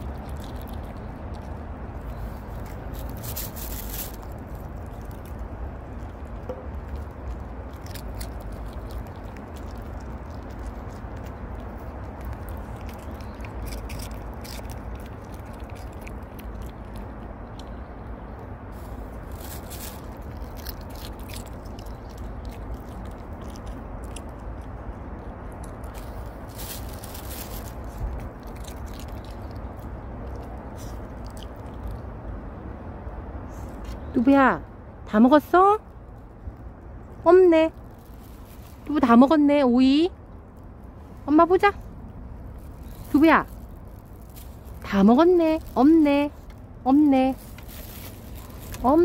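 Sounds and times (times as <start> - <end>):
dog crunching cucumber: 0.0 - 32.2, 41.8 - 49.0
low background noise: 0.0 - 49.0
steady low rumble: 0.0 - 49.0.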